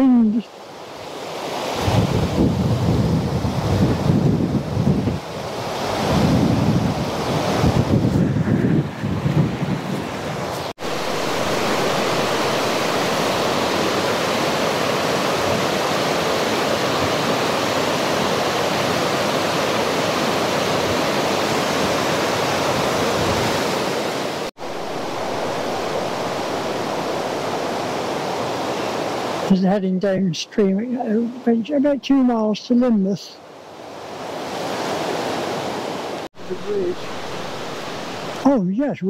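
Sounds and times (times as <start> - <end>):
fast-flowing river rushing: 0.5 - 38.5.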